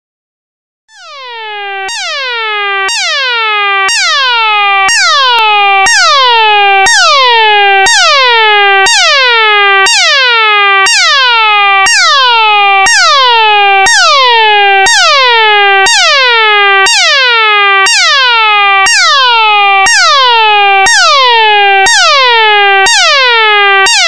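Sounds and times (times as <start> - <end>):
electronic sci-fi alarm tone: 0.9 - 24.0.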